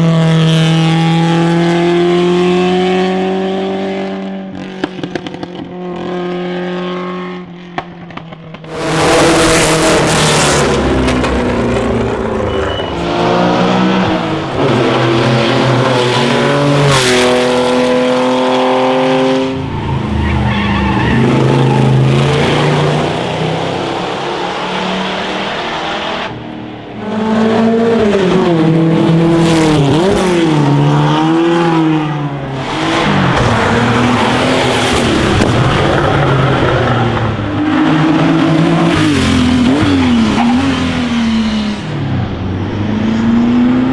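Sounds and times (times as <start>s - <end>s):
racing car engines revving: 0.0s - 43.9s.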